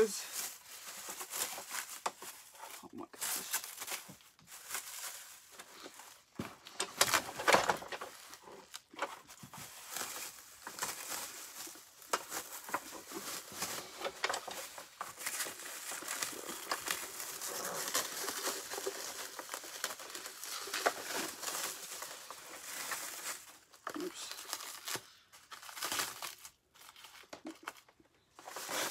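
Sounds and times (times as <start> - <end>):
plastic packaging crinkling: 0.0 - 28.9
sharp plastic crackles: 0.0 - 28.9.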